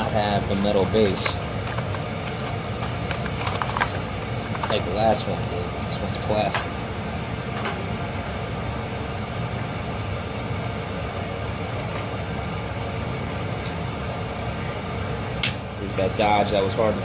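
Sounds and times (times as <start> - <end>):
appliance hum and hiss: 0.0 - 17.0.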